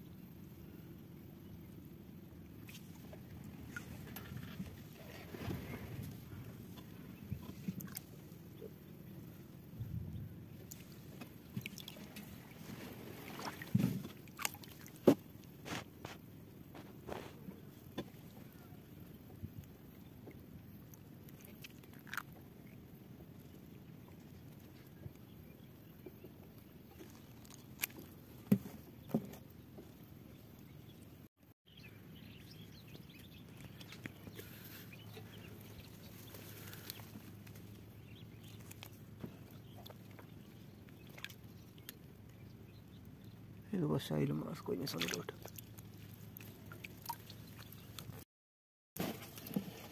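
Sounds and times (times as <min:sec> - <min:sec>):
faint rustle of water: 0:00.0 - 0:48.2, 0:49.0 - 0:49.9.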